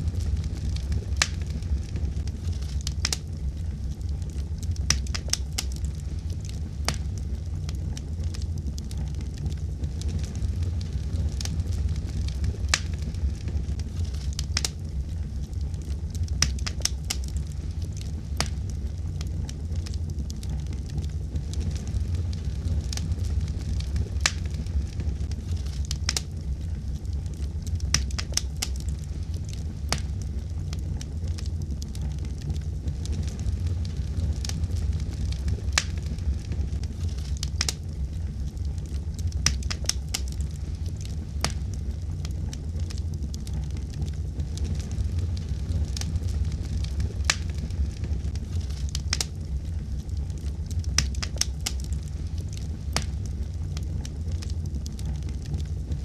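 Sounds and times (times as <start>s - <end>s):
fire crackling and popping: 0.0s - 56.0s
flames rumbling: 0.0s - 56.0s.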